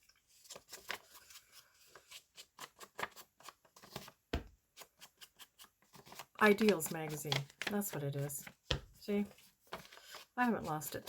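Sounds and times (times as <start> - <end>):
paper tapping and rustling: 0.4 - 11.0.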